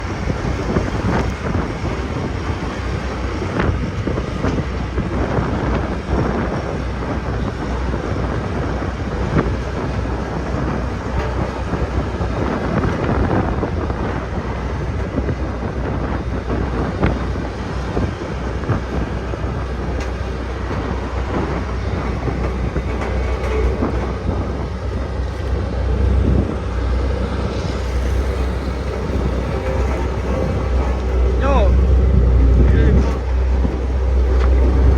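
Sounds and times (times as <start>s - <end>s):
rattles and knocks: 0.0s - 34.9s
road roller diesel rumble: 0.0s - 34.9s.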